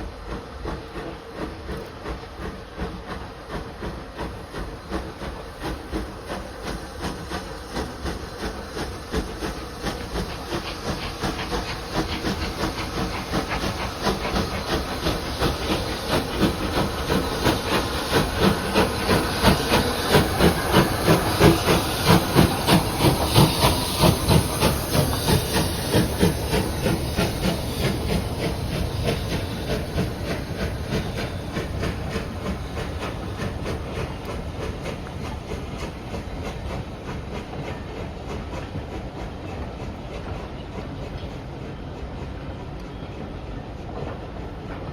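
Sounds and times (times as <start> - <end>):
hissing steam: 0.0 - 44.9
steam locomotive exhaust chuffs: 0.0 - 44.9.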